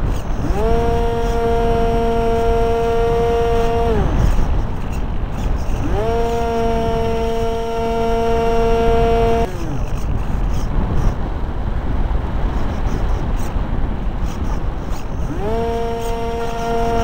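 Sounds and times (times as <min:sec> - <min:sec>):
electric motor whine: 0:00.0 - 0:11.2, 0:14.2 - 0:17.0
wind rushing over microphone: 0:00.0 - 0:17.0.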